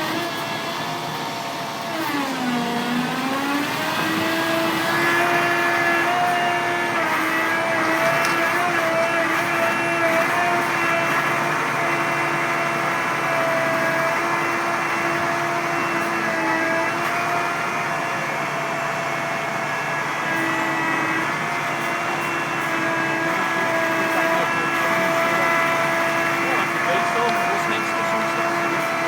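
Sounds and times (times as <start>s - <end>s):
truck engine and hydraulics whining: 0.0s - 29.0s.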